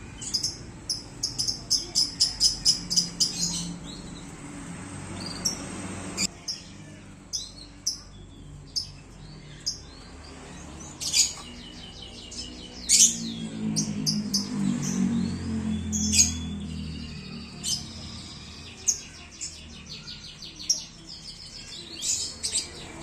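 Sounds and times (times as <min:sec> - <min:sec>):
canaries chirping and trilling: 0:00.0 - 0:23.0.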